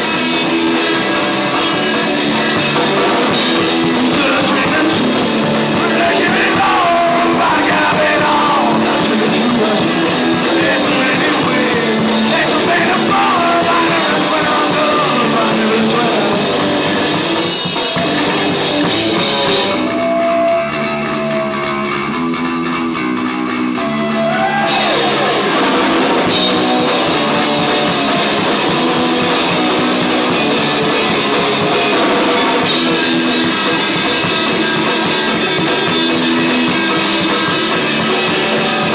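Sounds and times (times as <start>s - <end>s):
distorted electric guitars: 0.0s - 38.9s
drum kit: 0.0s - 38.9s.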